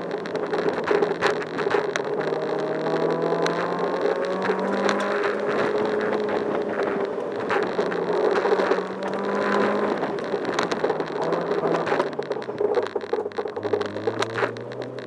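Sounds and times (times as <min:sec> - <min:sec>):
race car engine running: 0:00.1 - 0:15.0.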